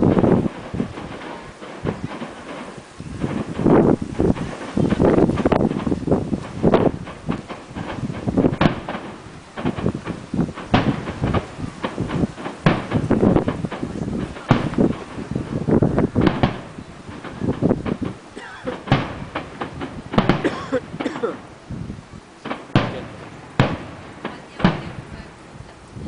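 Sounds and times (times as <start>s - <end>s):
fireworks bangs with echo: 0.0s - 21.5s, 22.4s - 25.3s
firework cracks: 0.0s - 26.0s.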